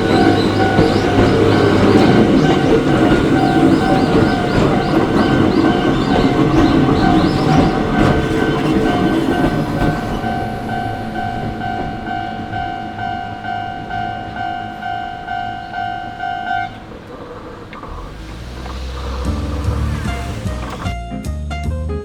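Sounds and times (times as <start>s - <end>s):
level crossing warning bell: 0.0s - 20.9s
train rumbling past: 0.0s - 21.0s.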